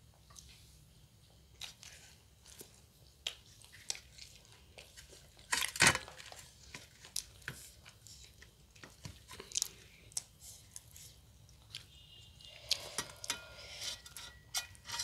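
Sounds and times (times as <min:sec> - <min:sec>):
people chewing and crunching: 0:00.1 - 0:14.0.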